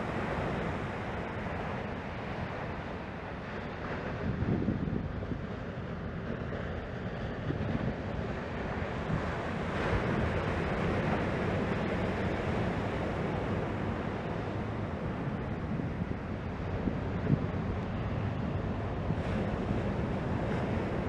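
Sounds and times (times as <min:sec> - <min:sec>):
ocean surf breaking: 0:00.0 - 0:04.5, 0:05.2 - 0:21.0
wind buffeting microphone: 0:00.0 - 0:21.0.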